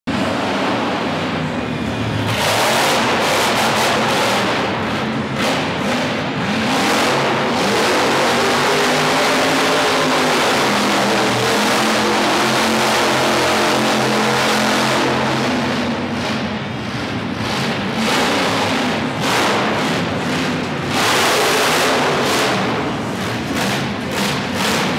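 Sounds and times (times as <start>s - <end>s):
monster truck engine revving: 0.1s - 24.9s.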